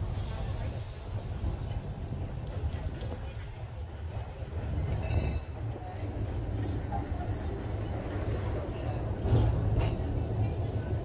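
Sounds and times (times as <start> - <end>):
tram running on rails: 0.0 - 11.0.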